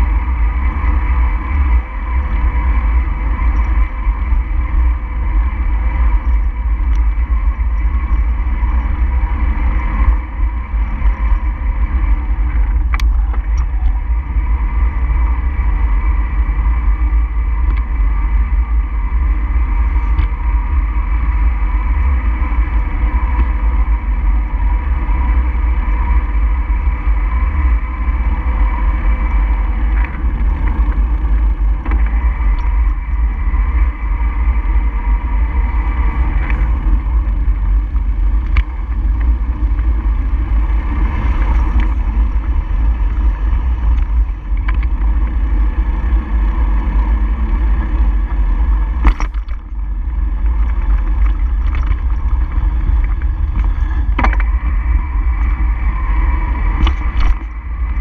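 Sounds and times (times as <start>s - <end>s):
faint steady hum: 0.0s - 58.0s
road rumble: 0.0s - 58.0s
wind rush on microphone: 0.0s - 58.0s.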